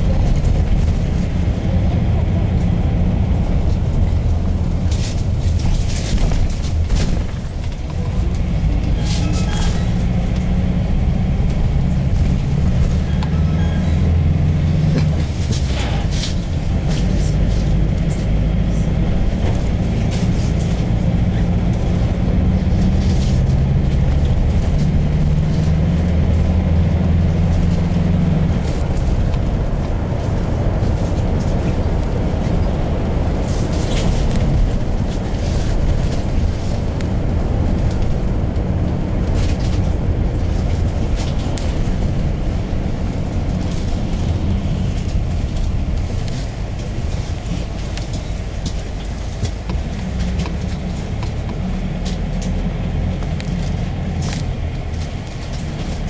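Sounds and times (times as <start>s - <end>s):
road rumble: 0.0s - 56.0s
vehicle engine drone: 0.0s - 56.0s.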